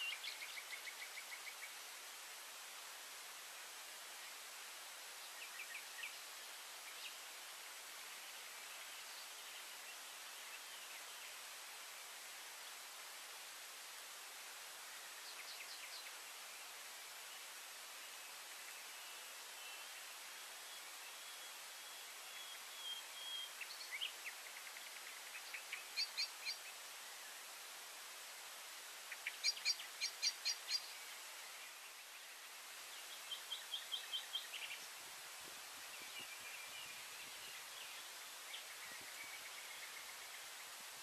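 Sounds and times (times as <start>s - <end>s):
small songbirds singing: 0.0s - 13.3s, 14.3s - 41.0s
steady outdoor hiss: 0.0s - 41.0s.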